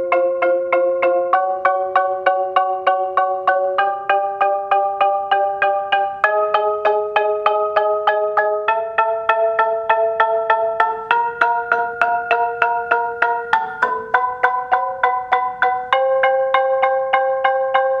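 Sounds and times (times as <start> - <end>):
marimba chords: 0.0 - 18.0.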